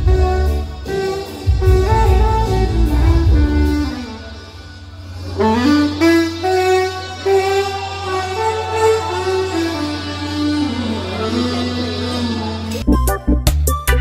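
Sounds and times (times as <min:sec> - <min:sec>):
saxophone melody: 0:00.0 - 0:13.9
heavy bass accompaniment: 0:00.0 - 0:14.0.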